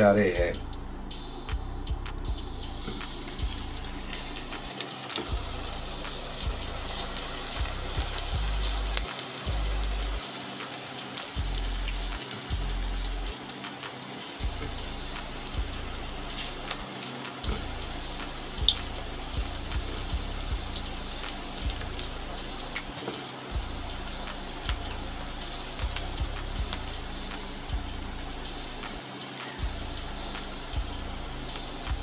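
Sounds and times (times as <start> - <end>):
batter deep-frying in oil: 2.3 - 32.0.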